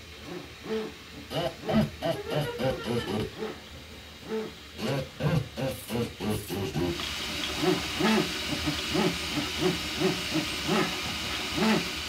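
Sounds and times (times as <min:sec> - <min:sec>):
cooling fans hissing: 0:00.0 - 0:12.0.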